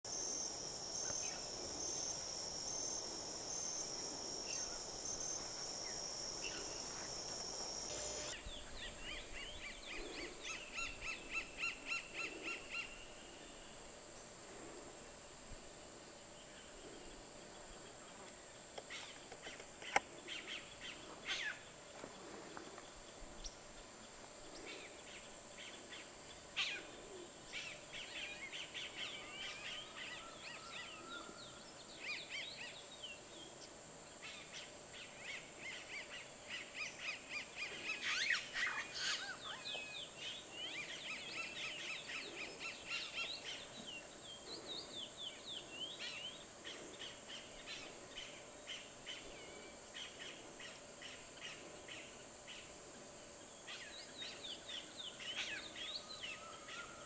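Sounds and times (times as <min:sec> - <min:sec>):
steady high buzz with pulsing note: 0:00.0 - 0:57.0
thin steady high hiss: 0:00.0 - 0:57.0.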